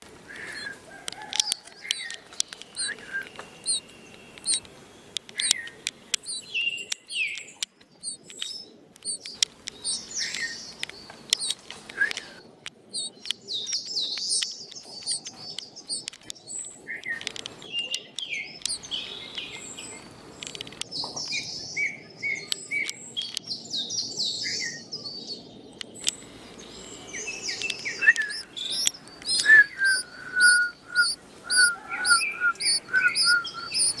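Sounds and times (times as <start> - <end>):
sharp clicks: 0.0 - 21.4, 22.5 - 23.6, 25.7 - 34.0
small birds chirping: 0.0 - 34.0.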